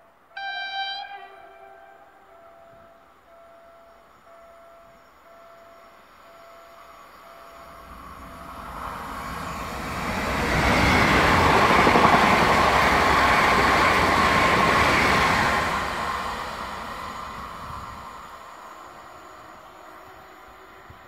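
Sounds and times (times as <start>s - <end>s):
train wheel and rail noise: 0.0s - 21.0s.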